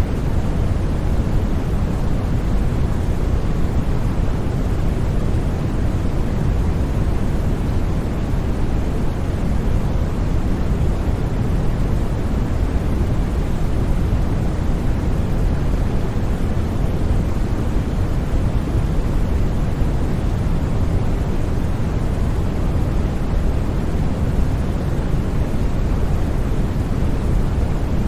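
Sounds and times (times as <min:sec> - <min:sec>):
deep white noise: 0:00.0 - 0:28.0.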